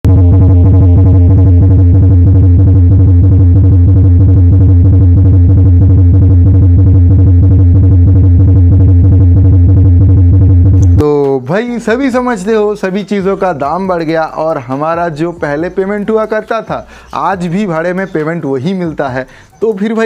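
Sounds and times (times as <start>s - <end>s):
electronic music with bass drone: 0.0s - 20.0s.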